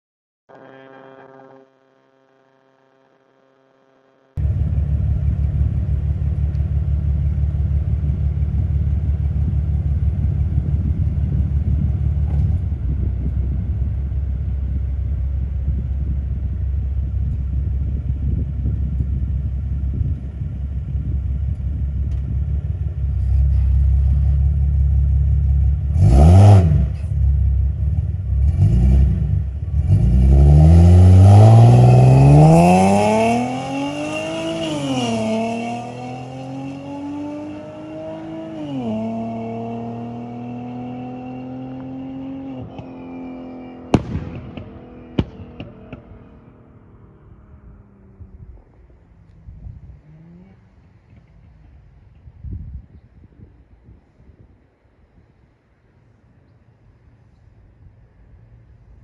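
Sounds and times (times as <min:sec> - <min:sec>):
car engine running and revving: 0:04.4 - 0:51.9.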